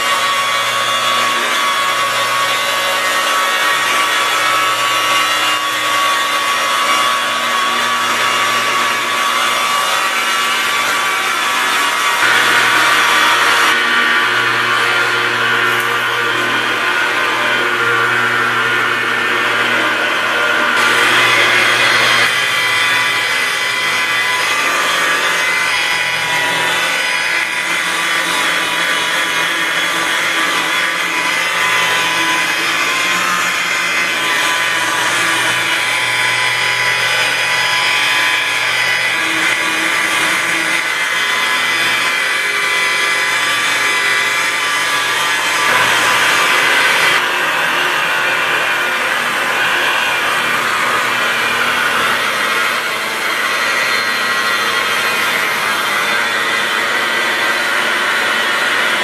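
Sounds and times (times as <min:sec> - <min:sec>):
electric rotary polisher running: 0:00.0 - 0:59.0.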